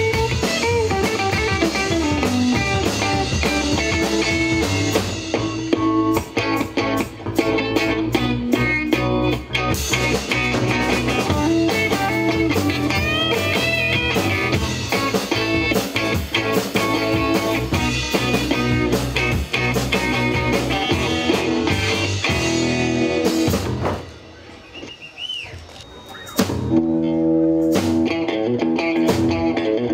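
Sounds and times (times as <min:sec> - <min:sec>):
live rock band playing: 0:00.0 - 0:24.8, 0:25.8 - 0:29.9.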